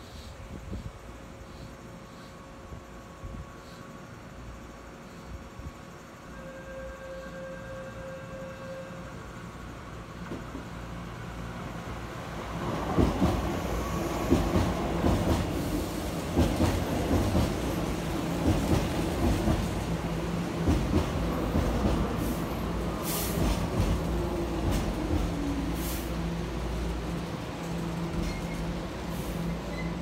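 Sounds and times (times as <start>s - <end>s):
electric train rumbling past: 0.0s - 30.0s.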